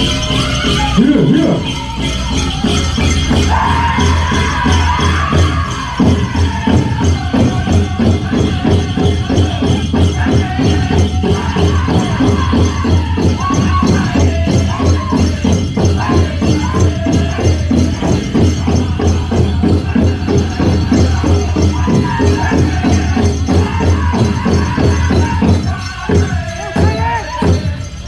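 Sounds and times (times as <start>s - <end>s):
fast steady drum beat: 0.0s - 28.0s
high voices singing: 0.0s - 28.0s
jingling leg bells: 0.0s - 28.0s.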